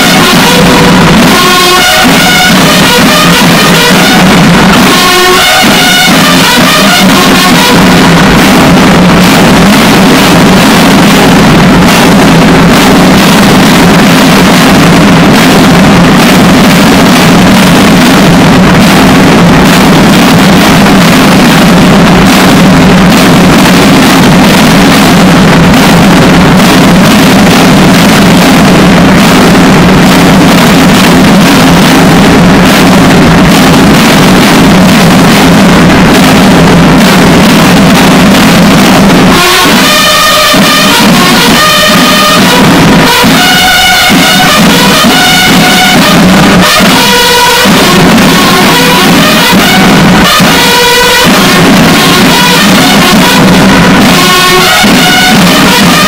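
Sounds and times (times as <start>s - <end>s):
harsh distorted buzzing drone: 0.0s - 56.0s.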